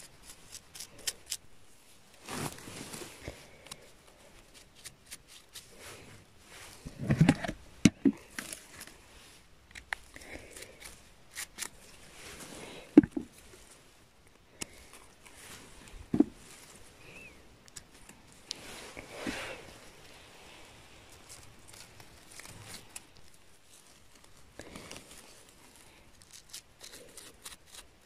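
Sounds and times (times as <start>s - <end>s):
rustling of leaves and moss: 0.0s - 28.0s.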